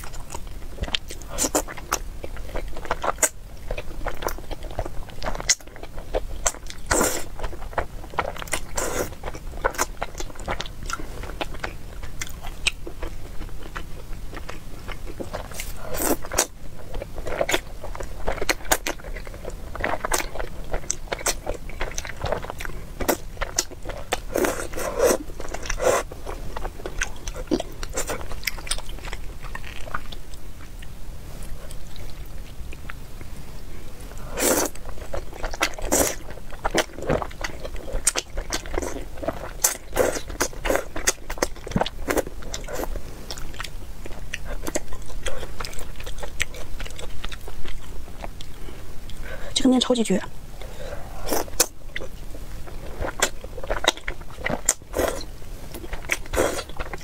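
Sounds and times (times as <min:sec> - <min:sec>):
chewing: 0:00.0 - 0:49.5, 0:50.6 - 0:57.0.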